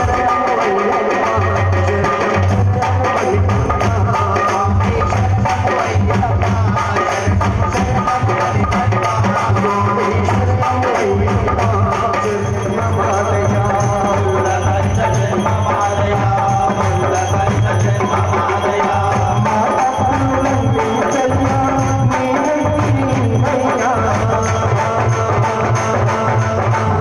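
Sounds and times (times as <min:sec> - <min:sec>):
hand drums: 0:00.0 - 0:27.0.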